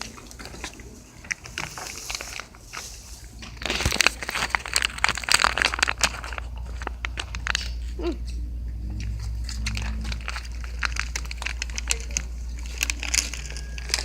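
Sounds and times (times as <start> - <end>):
crinkling handling noise: 0.0 - 14.0.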